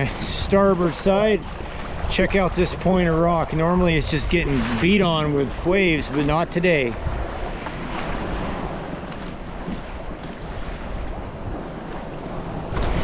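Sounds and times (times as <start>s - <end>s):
small waves washing: 0.0s - 13.0s
wind rumbling on microphone: 0.0s - 13.0s.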